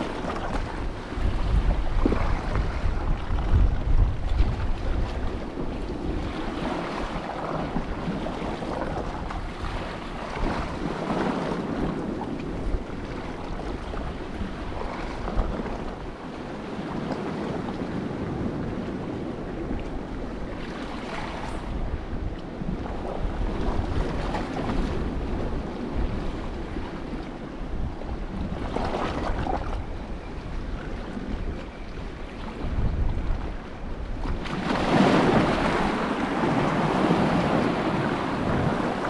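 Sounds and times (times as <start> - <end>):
sea surf: 0.0 - 39.0
wind buffeting microphone: 0.0 - 39.0.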